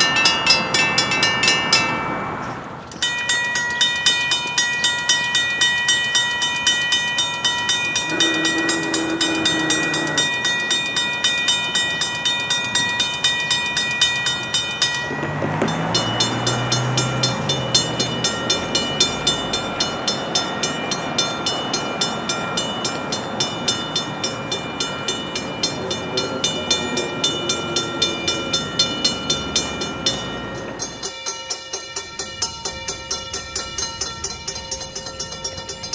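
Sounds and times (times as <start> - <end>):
railroad crossing bells ringing: 0.0 - 35.9
train: 0.0 - 35.9.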